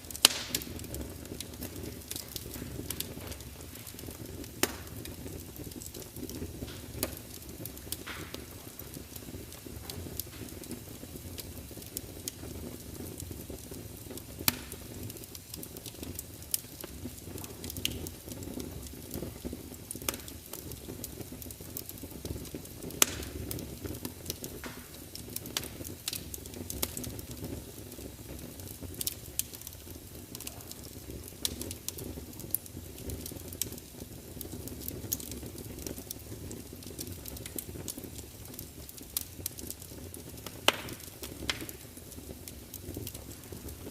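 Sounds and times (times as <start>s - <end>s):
logs crackling and popping: 0.0s - 43.9s
low rumble of flames: 0.0s - 43.9s.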